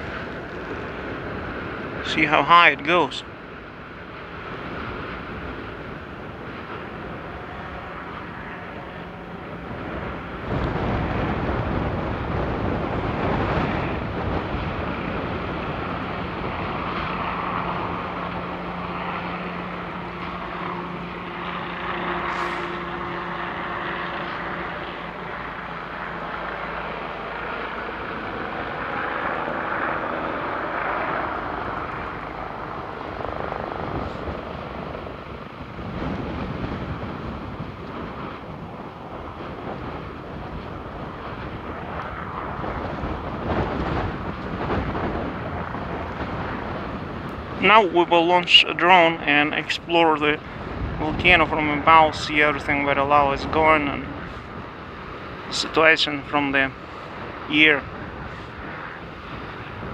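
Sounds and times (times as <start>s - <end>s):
faint engine drone: 0.0s - 59.9s
lava fountain roaring: 0.0s - 59.9s.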